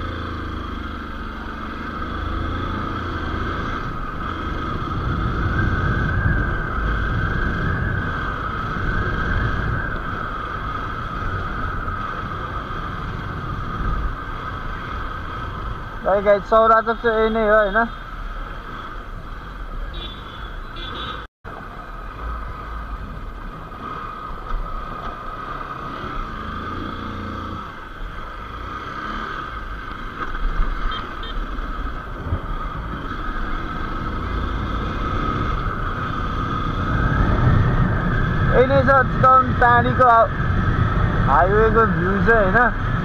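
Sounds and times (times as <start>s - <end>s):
road noise: 0.0s - 43.0s.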